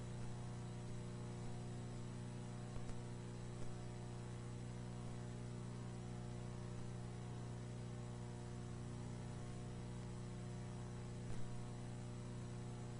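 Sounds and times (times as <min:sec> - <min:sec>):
low electrical hum: 0:00.0 - 0:12.9.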